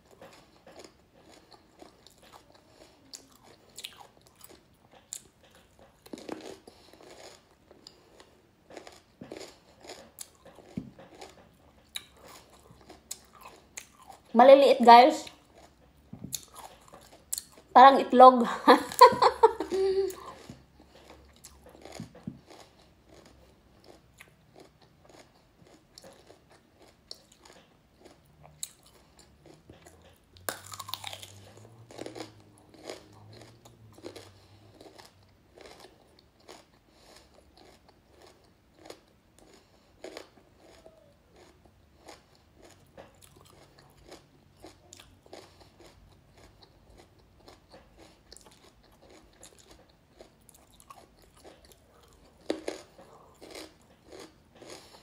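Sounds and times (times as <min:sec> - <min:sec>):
radishes being chewed: 0:00.0 - 0:14.4, 0:15.2 - 0:17.8, 0:18.7 - 0:55.0.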